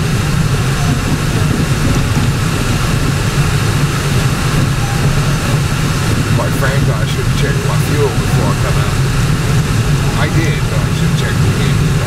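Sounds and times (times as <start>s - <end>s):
car engine hum from inside: 0.0s - 12.0s
tyre and road noise: 0.0s - 12.0s.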